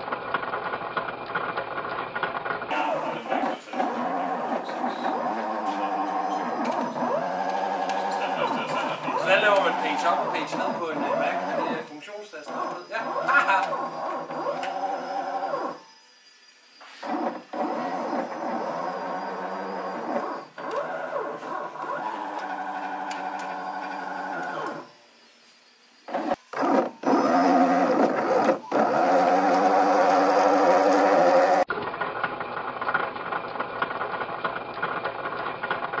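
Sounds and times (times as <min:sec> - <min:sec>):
stepper motors whining: 0:02.2 - 0:36.0.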